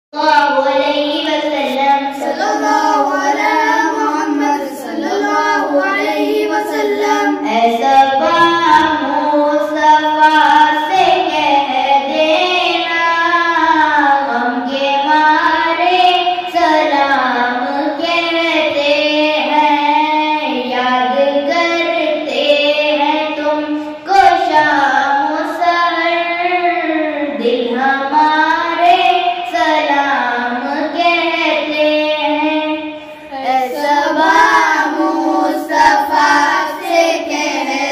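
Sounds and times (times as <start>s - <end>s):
boy singing solo: 0.2s - 37.9s.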